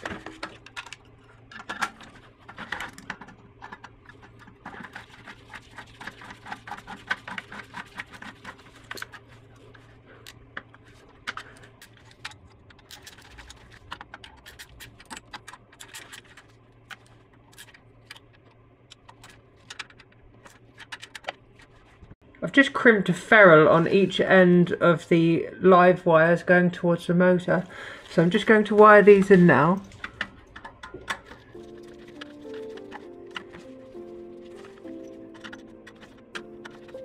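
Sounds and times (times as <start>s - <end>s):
small clicks taps and scrapes: 0.0s - 22.2s, 28.0s - 37.0s.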